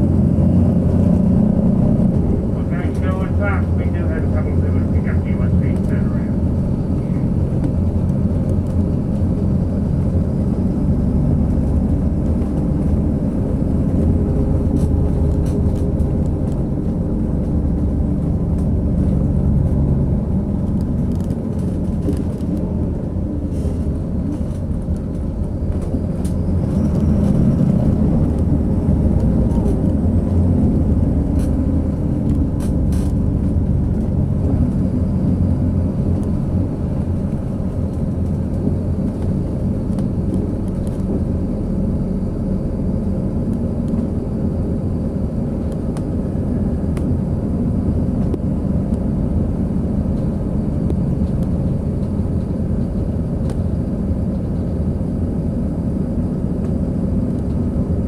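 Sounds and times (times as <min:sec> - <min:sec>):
bus engine drone: 0:00.0 - 0:58.0
road noise: 0:00.0 - 0:58.0.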